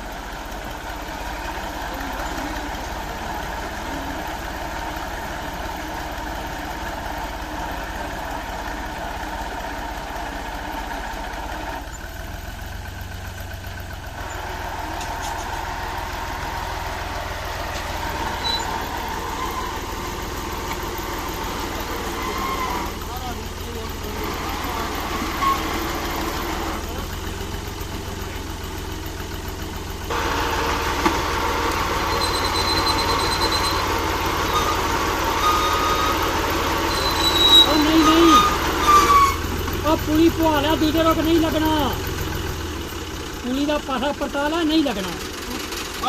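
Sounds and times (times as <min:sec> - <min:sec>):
tractor diesel engine idling: 0:00.0 - 0:46.0.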